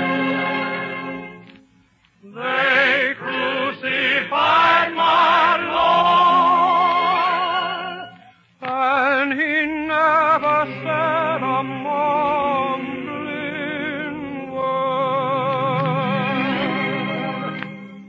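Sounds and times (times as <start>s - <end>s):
vocal group singing a spiritual: 2.2s - 16.8s
lead voice singing with vibrato: 2.2s - 17.1s.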